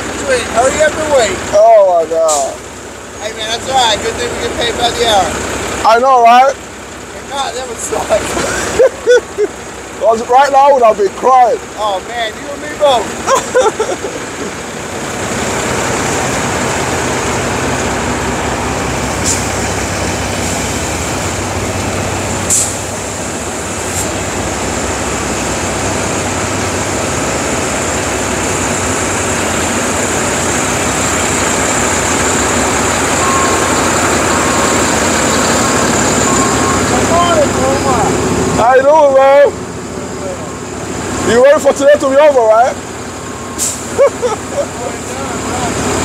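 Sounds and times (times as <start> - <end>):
diesel truck engine running: 0.0 - 46.0.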